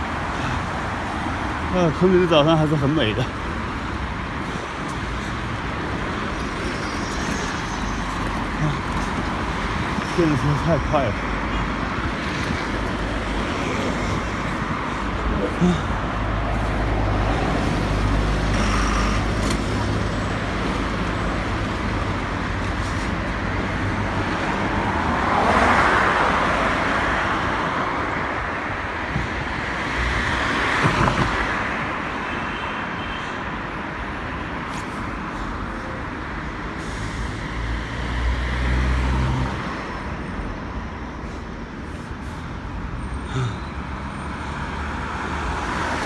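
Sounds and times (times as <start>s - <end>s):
vehicles driving past: 0.0s - 32.2s, 33.6s - 46.0s.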